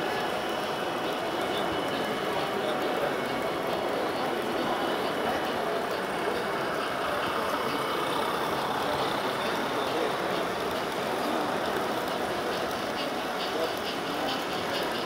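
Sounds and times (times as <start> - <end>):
crowd hubbub: 0.0 - 15.0.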